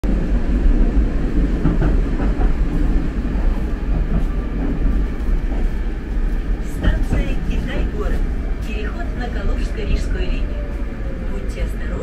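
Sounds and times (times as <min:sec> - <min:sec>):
metro train rumbling: 0:00.0 - 0:12.0.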